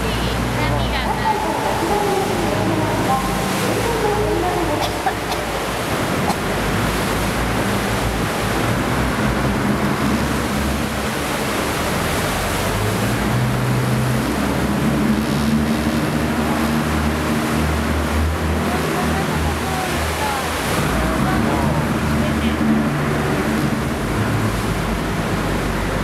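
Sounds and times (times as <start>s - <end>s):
boat engine running low: 0.0s - 26.0s
water rushing: 0.0s - 26.0s
wind: 0.0s - 26.0s.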